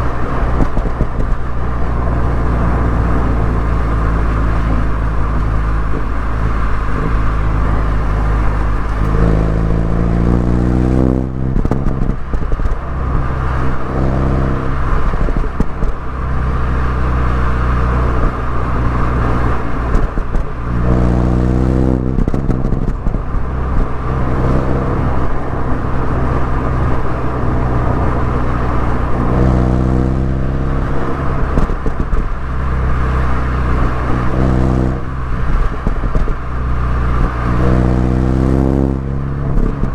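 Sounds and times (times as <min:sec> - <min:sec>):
car engine revving: 0:00.0 - 0:39.9
exhaust crackle: 0:00.0 - 0:39.9.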